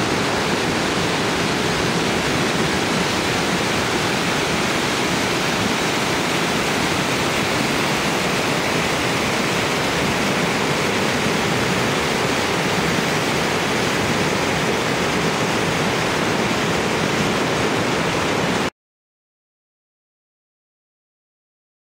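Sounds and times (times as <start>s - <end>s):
rush of falling water: 0.0s - 18.7s.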